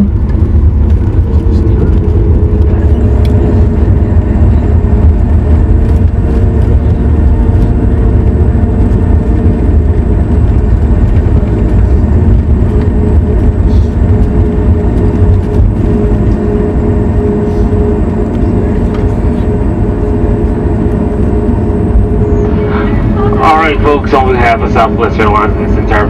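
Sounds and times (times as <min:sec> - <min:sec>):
jet engines humming: 0:00.0 - 0:26.0
low rumble of airframe and wheels: 0:00.0 - 0:26.0.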